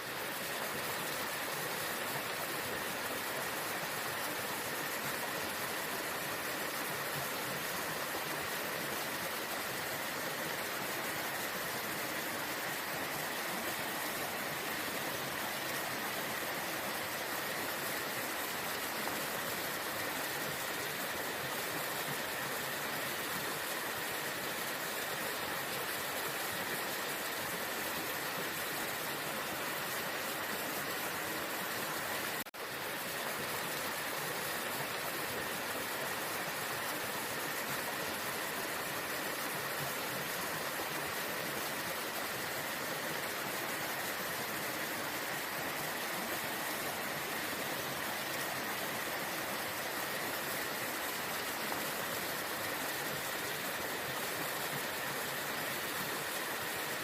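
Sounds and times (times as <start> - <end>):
waterfall rushing: 0.0 - 32.8, 33.4 - 57.0.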